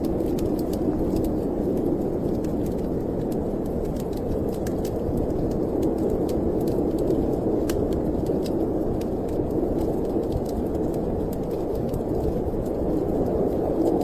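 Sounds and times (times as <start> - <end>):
low snowstorm wind: 0.0 - 14.0
wood fire crackling: 0.0 - 14.0.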